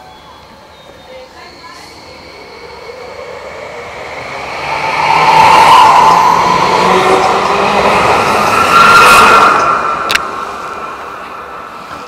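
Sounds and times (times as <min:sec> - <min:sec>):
light rail train passing: 0:00.0 - 0:12.0
steady high whine: 0:00.0 - 0:12.0.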